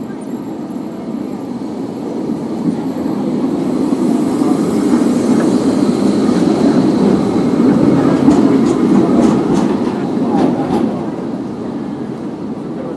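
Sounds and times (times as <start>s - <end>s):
tram rolling on rails: 0.0s - 12.9s.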